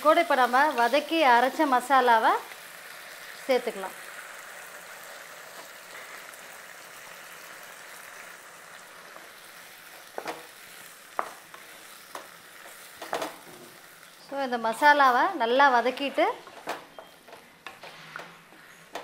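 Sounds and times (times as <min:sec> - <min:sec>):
chicken sizzling in oil: 0:00.0 - 0:16.1.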